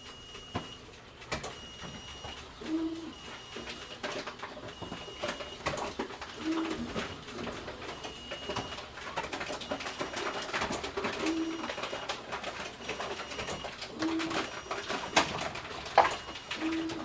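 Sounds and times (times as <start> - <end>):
bottle return machine working: 0.0 - 17.0.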